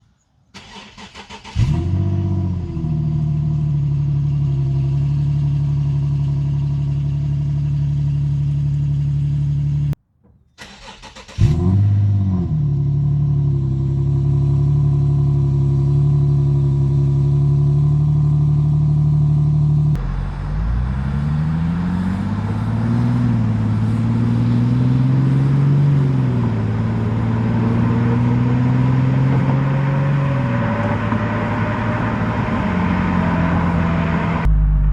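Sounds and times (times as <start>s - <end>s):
car engine starting and idling: 0.5s - 10.0s, 10.6s - 34.9s
engine revving: 0.6s - 10.0s, 10.6s - 34.9s.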